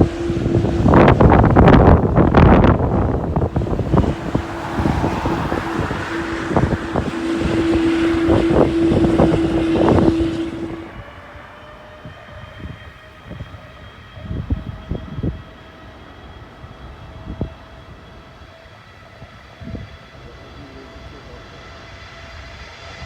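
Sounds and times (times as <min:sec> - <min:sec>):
jet engines running: 0:00.0 - 0:23.0
wind buffeting microphone: 0:00.0 - 0:23.0.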